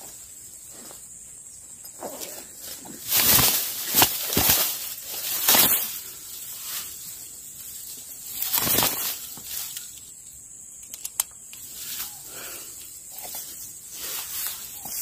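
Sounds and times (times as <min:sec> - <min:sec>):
dry grass rustling: 0:01.9 - 0:10.4, 0:11.4 - 0:15.0.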